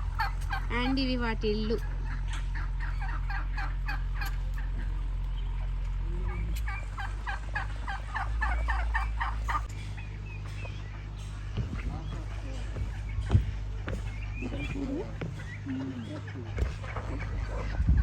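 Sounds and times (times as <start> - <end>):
low steady hum: 0.0 - 18.0
turkeys gobbling: 0.0 - 18.0.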